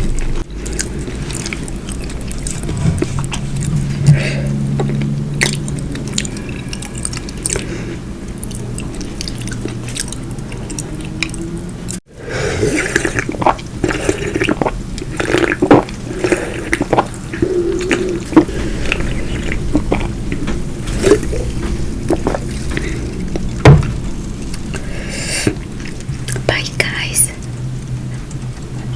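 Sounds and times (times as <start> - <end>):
wet chewing and smacking: 0.0 - 12.0, 12.6 - 28.9.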